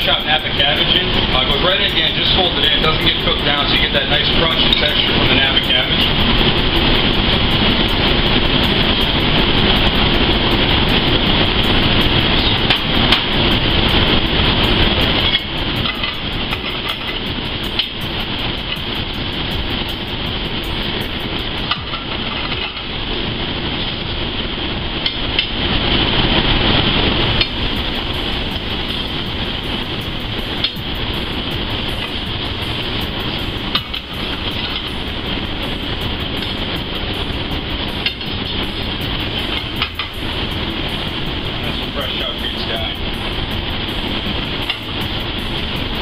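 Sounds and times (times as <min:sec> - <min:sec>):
burners and exhaust hood rushing: 0:00.0 - 0:46.0.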